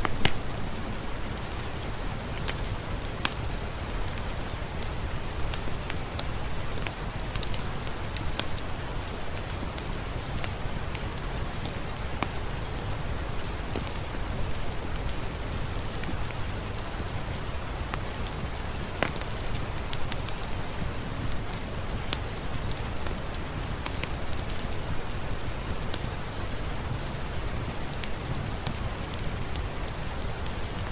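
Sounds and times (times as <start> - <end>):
steady rain with drop ticks: 0.0 - 30.9.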